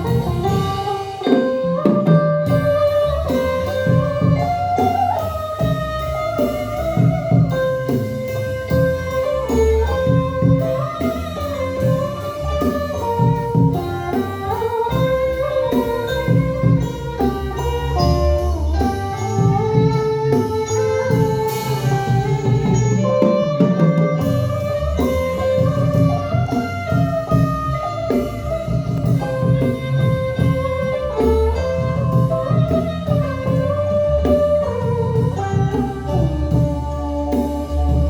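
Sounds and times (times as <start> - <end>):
held-note melody over bass line: 0.0 - 38.0
light percussion: 0.0 - 38.0
plucked string: 0.0 - 38.0.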